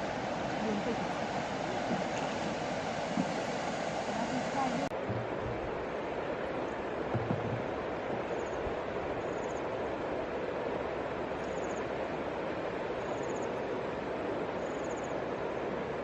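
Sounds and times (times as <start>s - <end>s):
rushing wind and water: 0.0s - 16.0s.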